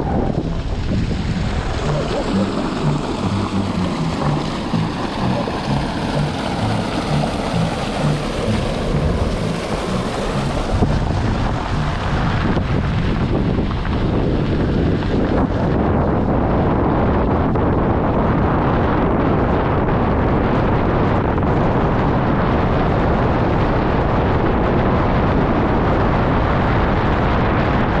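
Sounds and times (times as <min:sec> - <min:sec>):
vehicle road noise on dirt road: 0:00.0 - 0:28.0
wind buffeting microphone: 0:00.0 - 0:28.0.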